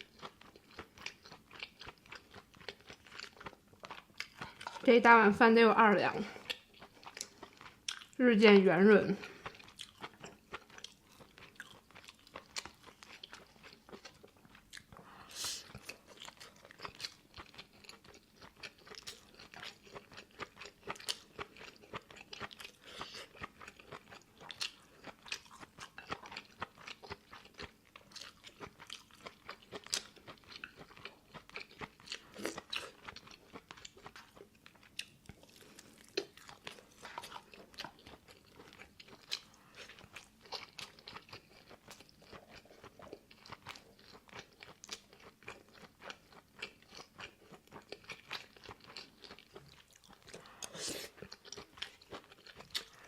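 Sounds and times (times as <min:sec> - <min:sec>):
person chewing with crunches: 0:00.0 - 0:04.9, 0:06.1 - 0:08.2, 0:09.1 - 0:53.0.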